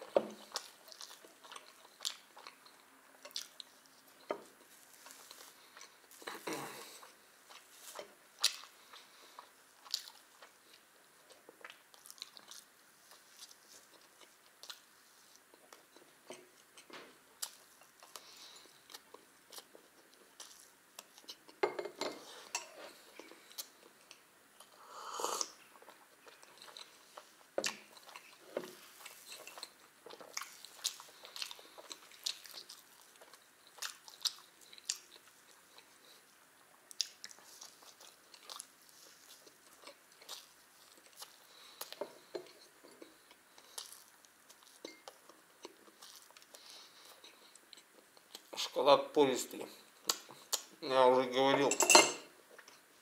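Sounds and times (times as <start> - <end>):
chewing and mouth clicks: 0.4 - 21.6, 25.4 - 48.7, 50.0 - 50.8.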